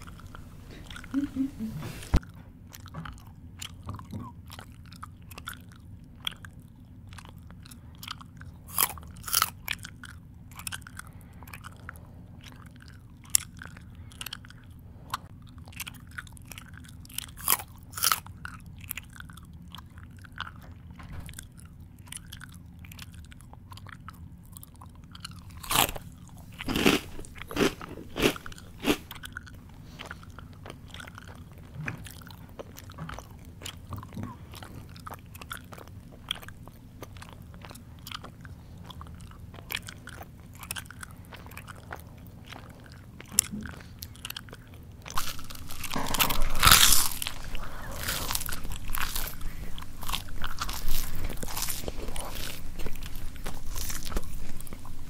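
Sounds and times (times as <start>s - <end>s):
faint low hum: 0.0s - 55.0s
person chewing noisily: 0.0s - 55.0s.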